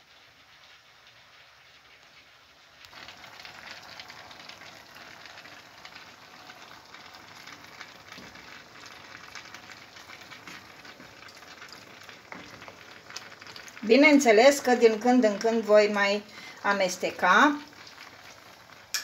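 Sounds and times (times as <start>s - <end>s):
cabbage sizzling in a pot: 0.0s - 19.0s.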